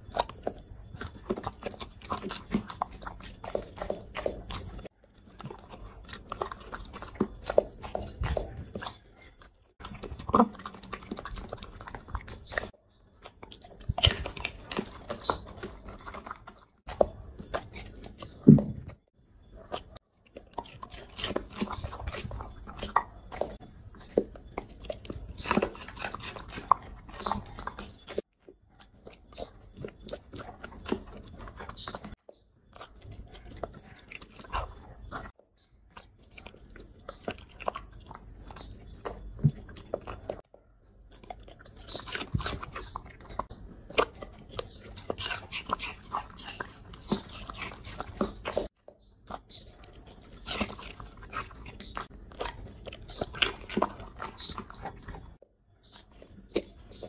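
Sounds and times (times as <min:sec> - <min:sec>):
dog chewing and crunching food: 0:00.0 - 0:57.0.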